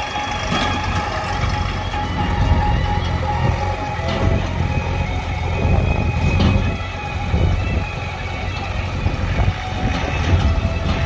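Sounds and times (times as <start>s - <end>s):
diesel engine of backhoe driving: 0.0s - 11.0s.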